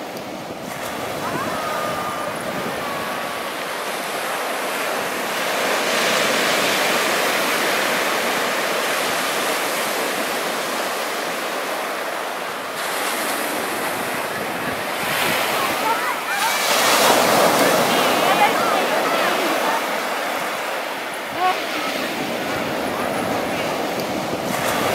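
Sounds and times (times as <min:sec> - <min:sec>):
waves breaking on sandy beach: 0:00.0 - 0:24.9.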